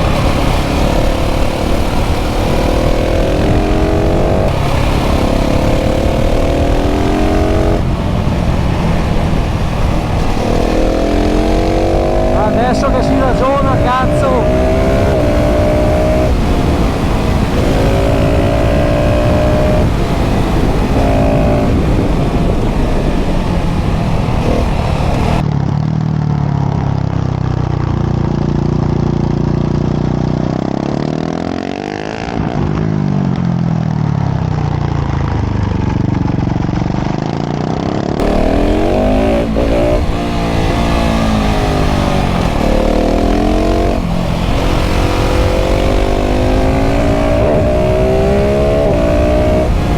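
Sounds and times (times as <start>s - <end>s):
motorcycle engine revving hard: 0.0s - 49.9s.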